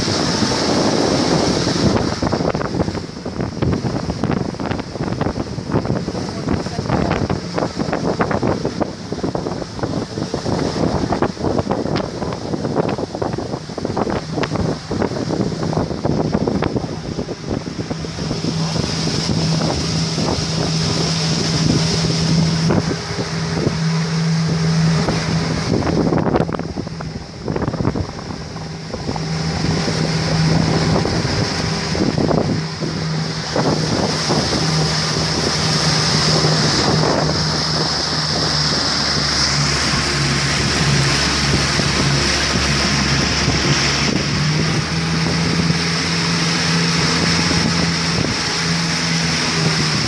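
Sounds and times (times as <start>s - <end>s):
outboard motor humming: 0.0s - 50.0s
wind buffeting microphone: 0.0s - 50.0s.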